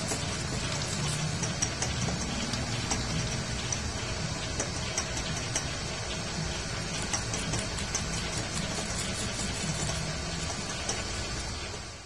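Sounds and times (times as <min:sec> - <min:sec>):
lathe mechanical hum: 0:00.0 - 0:12.0.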